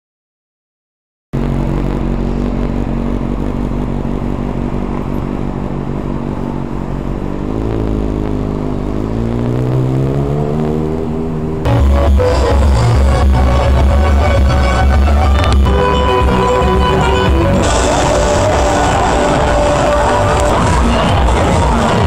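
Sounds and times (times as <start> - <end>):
vehicle engine revving: 1.4 - 22.0.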